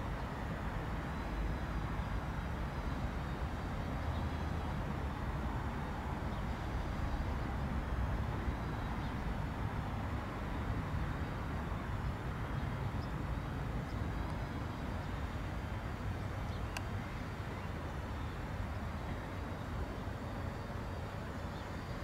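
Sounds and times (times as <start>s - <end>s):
jet engines rumbling with whine: 0.0s - 22.0s.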